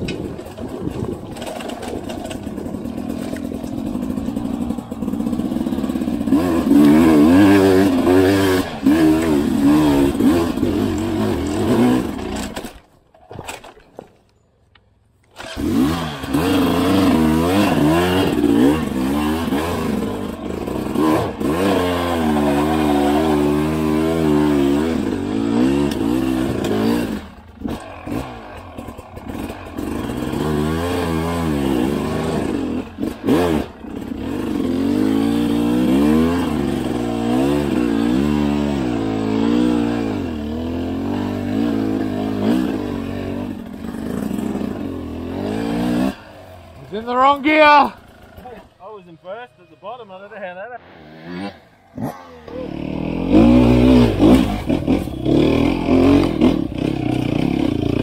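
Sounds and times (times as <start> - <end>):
dirt bike engine revving: 0.0 - 12.8, 15.3 - 58.0.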